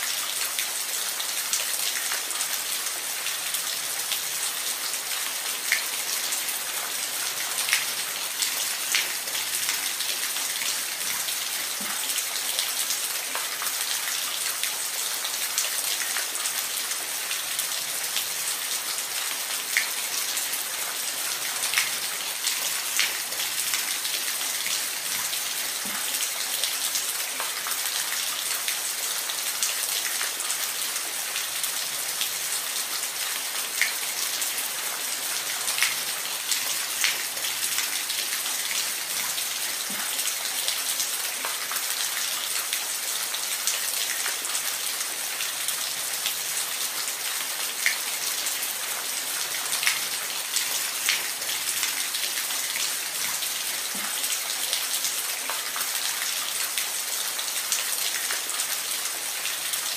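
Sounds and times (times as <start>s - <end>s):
water drips and splashes: 0.0s - 59.9s.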